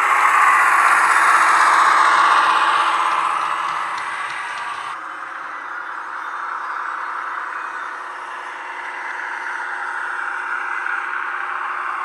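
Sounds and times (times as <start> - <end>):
diesel engine through small speaker: 0.0 - 12.0.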